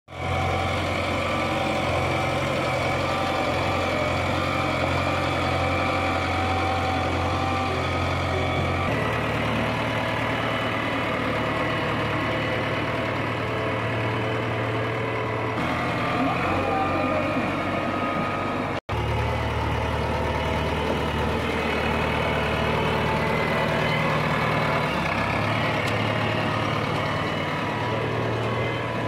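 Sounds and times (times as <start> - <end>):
diesel engine idling: 0.1 - 29.0.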